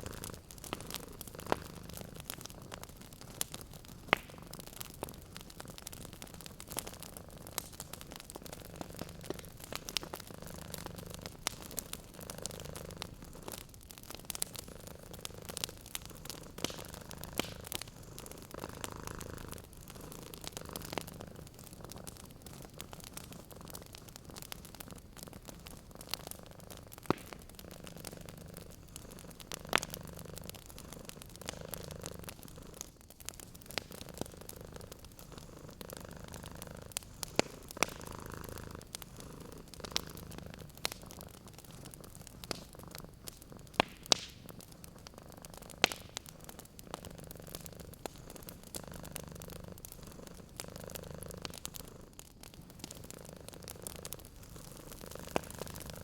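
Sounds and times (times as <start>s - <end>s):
cat purring: 0.0s - 56.0s
wood fire crackling: 0.0s - 56.0s.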